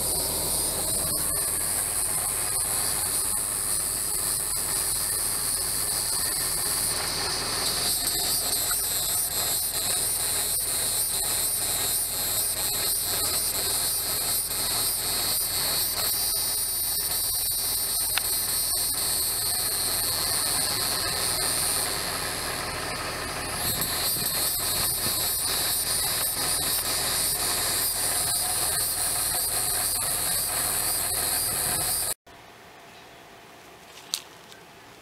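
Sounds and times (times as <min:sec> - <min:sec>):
shrill insect buzzing: 0:00.0 - 0:22.5, 0:23.3 - 0:32.2.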